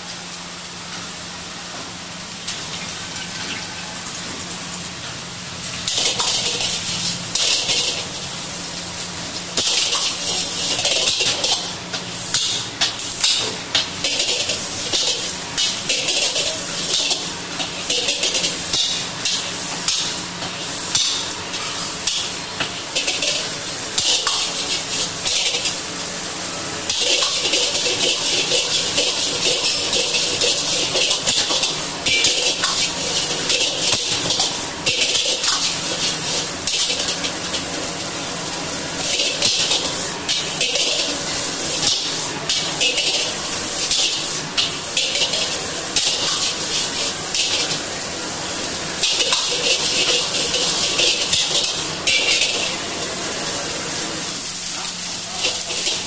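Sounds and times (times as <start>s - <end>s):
rice sizzling in a wok: 0.0s - 56.0s.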